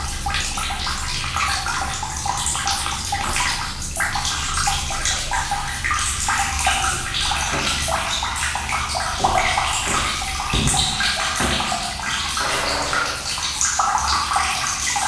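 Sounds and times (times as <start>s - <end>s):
water pouring and splashing: 0.0s - 15.0s.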